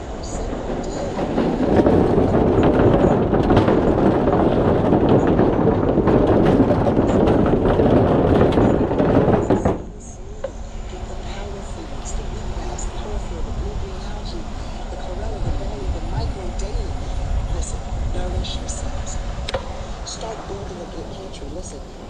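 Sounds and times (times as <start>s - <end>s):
bicycle tyres rumbling over planks: 0.0s - 22.0s.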